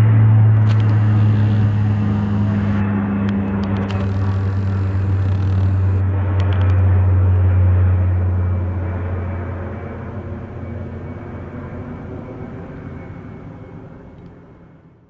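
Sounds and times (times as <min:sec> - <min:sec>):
military aircraft flying past: 0:00.0 - 0:15.0.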